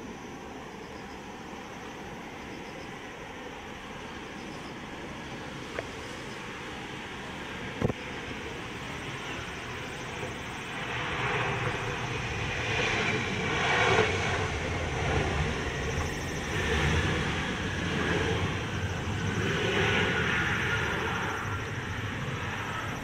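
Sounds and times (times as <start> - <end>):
jet engines rushing with whine: 0.0 - 23.0.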